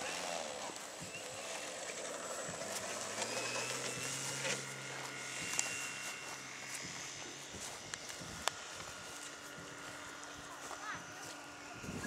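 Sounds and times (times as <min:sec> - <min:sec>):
electric motor and propeller whining: 0:00.0 - 0:12.0.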